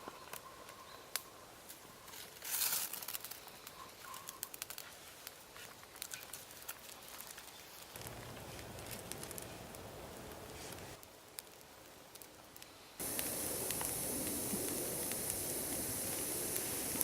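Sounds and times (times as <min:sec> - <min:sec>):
bamboo shavings fire crackling: 0:00.0 - 0:17.0.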